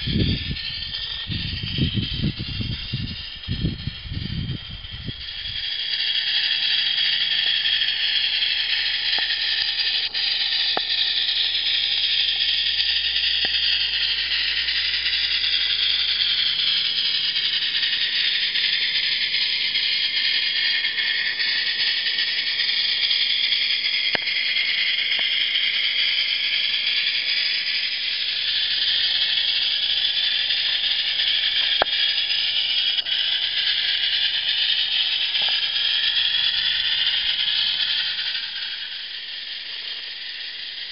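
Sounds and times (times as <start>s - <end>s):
steam locomotive hissing: 0.0s - 40.9s
faint ticks: 5.0s - 40.9s.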